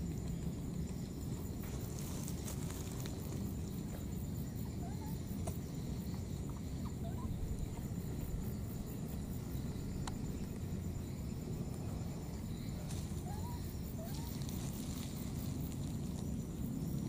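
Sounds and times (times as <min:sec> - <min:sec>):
high insect buzz: 0:00.0 - 0:17.0.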